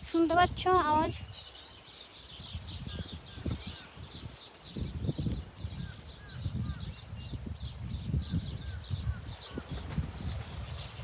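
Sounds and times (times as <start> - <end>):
weaver birds chattering: 0.0 - 11.0
wind rumbling on microphone: 0.0 - 11.0.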